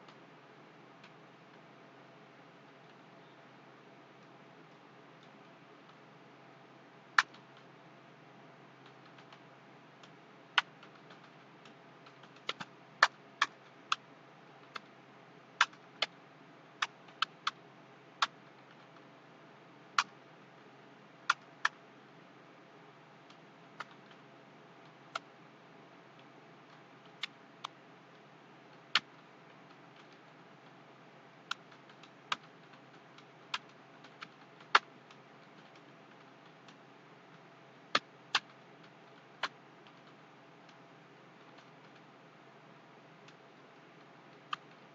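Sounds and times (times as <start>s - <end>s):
faint steady hiss: 0.0s - 44.9s.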